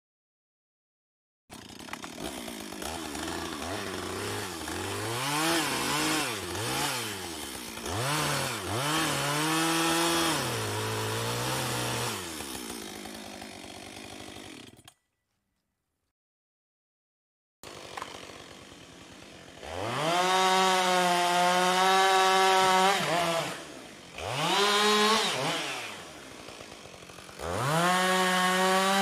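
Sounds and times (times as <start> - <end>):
chainsaw cutting wood: 1.5 - 15.0, 17.6 - 29.0.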